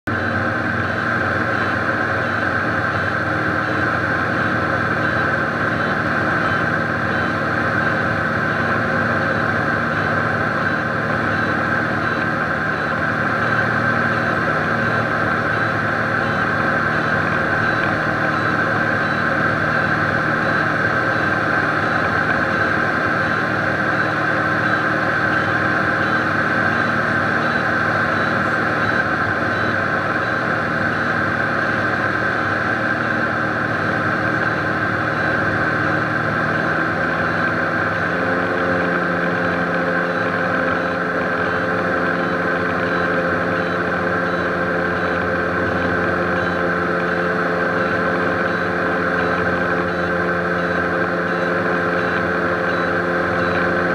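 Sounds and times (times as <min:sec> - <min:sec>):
aircraft engine and propeller drone: 0:00.1 - 0:53.9.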